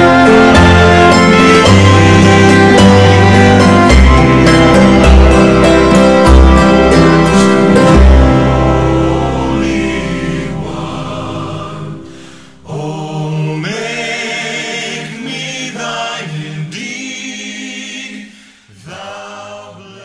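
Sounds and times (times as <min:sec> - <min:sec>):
voices singing long-held chords: 0:00.0 - 0:20.0.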